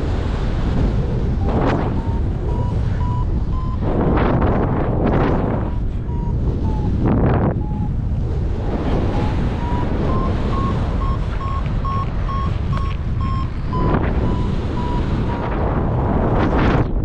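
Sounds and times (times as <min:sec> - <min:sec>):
wind noise on microphone: 0:00.0 - 0:17.0
variometer beeping: 0:01.3 - 0:15.5.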